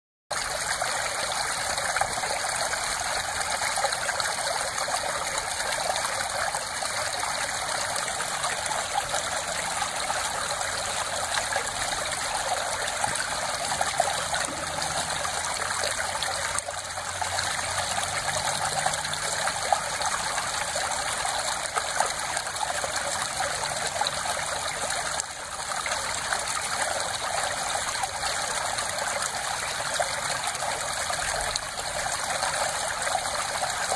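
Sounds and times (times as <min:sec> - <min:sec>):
stream water flowing over stones: 0:00.3 - 0:33.9.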